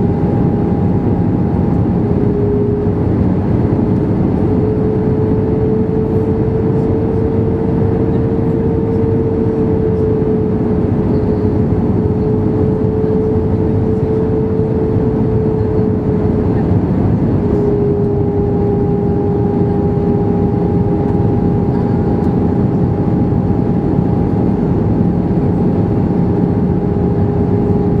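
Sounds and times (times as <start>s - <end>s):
engine whine: 0.0s - 28.0s
higher engine tone: 0.0s - 28.0s
jet engine and airflow roar: 0.0s - 28.0s.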